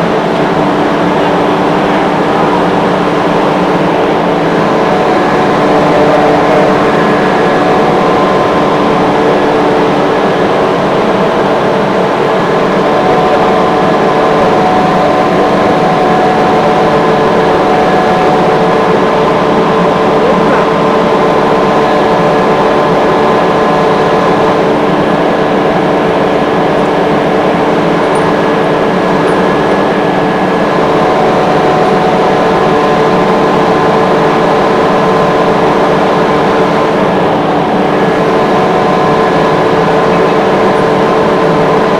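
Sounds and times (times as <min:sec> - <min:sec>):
air compressor running: 0:00.0 - 0:41.9.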